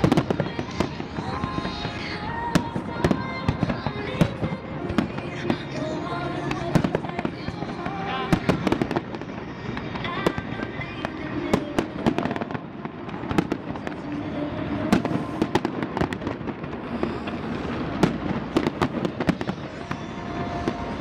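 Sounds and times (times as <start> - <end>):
firecracker crackle: 0.0 - 21.0
fireworks popping and banging: 0.0 - 21.0.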